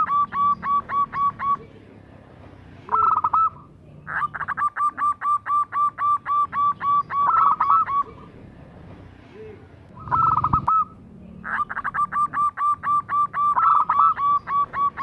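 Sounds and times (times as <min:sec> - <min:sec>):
dove cooing: 0:00.0 - 0:01.8, 0:02.9 - 0:08.4, 0:09.4 - 0:15.0.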